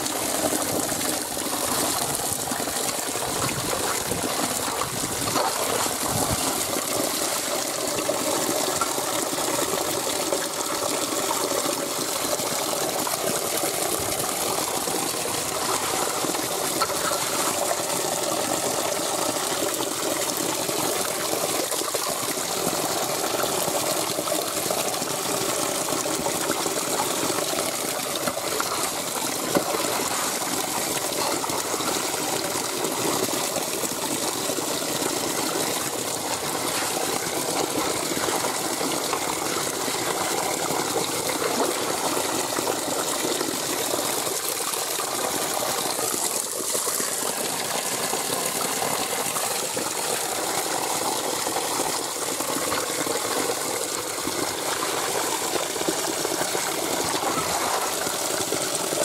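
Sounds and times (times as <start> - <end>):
stream over gravel and stones: 0.0 - 59.0.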